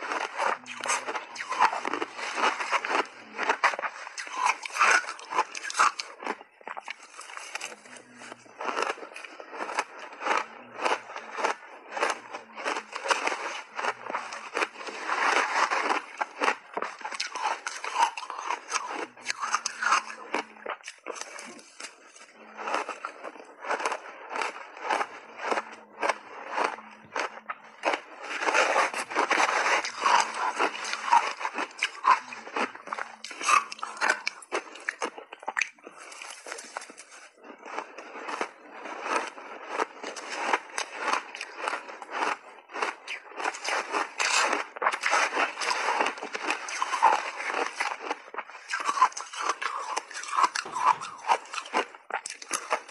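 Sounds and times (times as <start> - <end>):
crunching and chewing shaved ice: 0.0 - 52.9.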